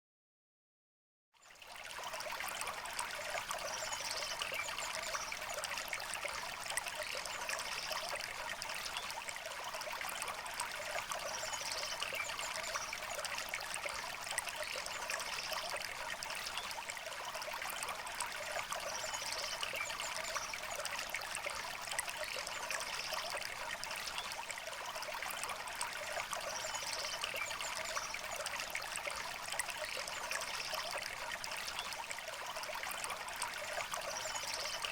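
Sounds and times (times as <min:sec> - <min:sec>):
river water flowing: 0:01.5 - 0:34.9.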